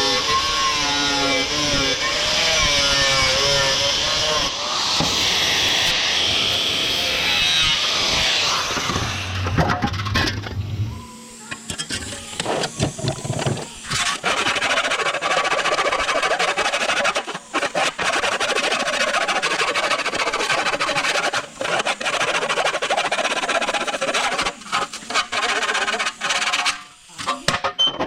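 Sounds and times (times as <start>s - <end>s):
power tool abrading rust off metal: 2.2s - 28.0s.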